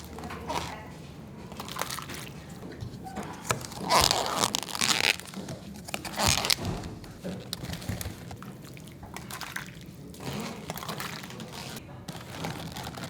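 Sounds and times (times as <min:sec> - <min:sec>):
crunching and crinkling handling noises: 0:00.0 - 0:13.0.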